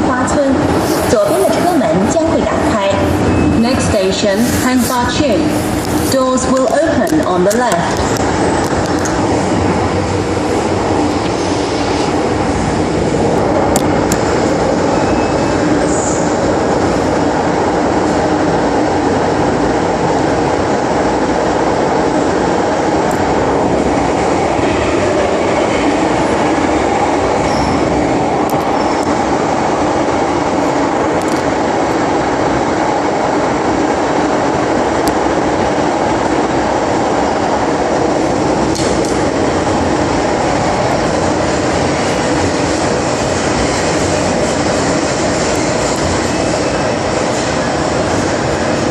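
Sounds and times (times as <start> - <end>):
metro train wheels on rail: 0.0 - 48.9.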